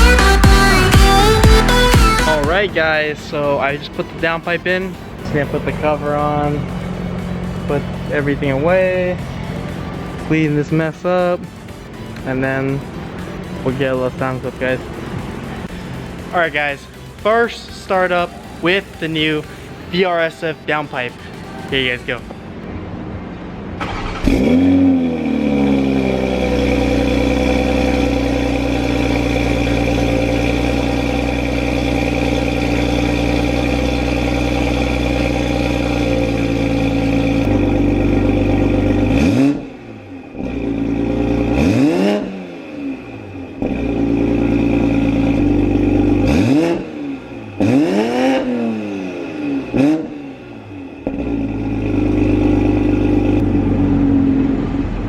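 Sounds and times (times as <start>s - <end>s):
car engine starting and idling: 0.0s - 55.0s
engine throttle blips: 0.0s - 55.0s.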